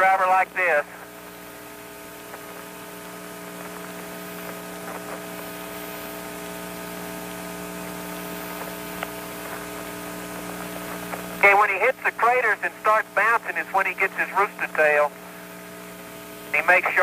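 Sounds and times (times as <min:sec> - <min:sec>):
radio channel hum and hiss: 0:00.0 - 0:17.0.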